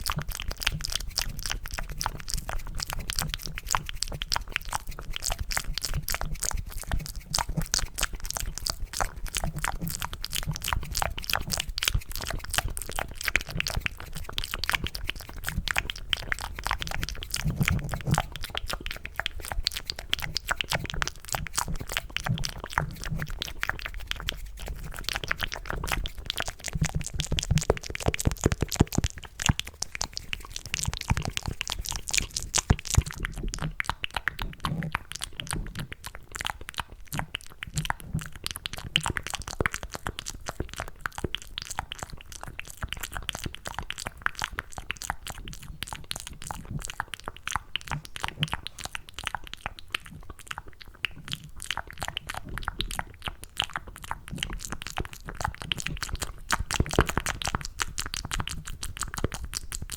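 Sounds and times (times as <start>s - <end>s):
wet mouth clicks and smacks: 0.0s - 59.9s.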